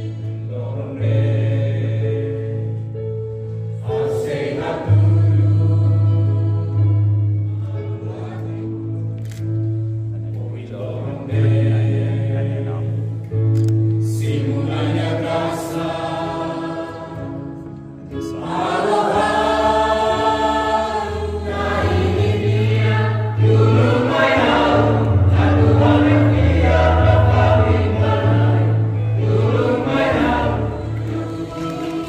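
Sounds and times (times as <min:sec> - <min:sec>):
choir singing: 0:00.0 - 0:08.8, 0:10.7 - 0:13.0, 0:14.0 - 0:32.0.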